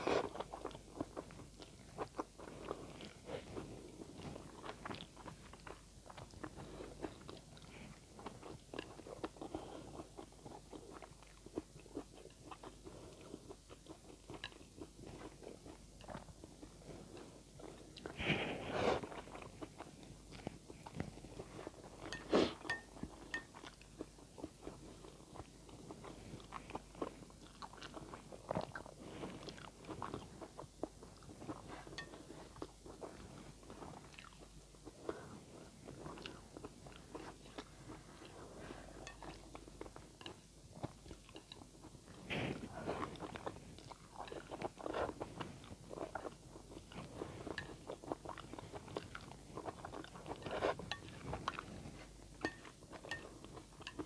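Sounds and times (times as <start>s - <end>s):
person chewing noodles: 0.0s - 54.0s.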